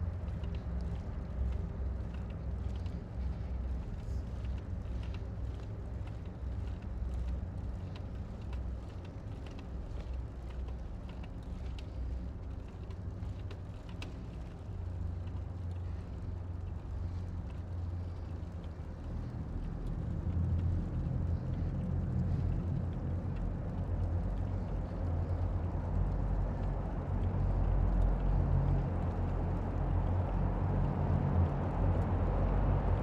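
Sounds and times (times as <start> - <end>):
light ticks and clicks: 0.0 - 33.0
low steady rumble: 0.0 - 33.0.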